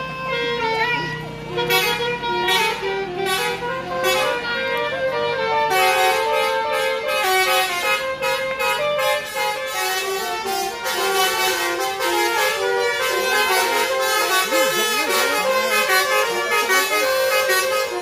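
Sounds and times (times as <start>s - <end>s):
bus musical horn playing a tune: 0.0s - 18.0s.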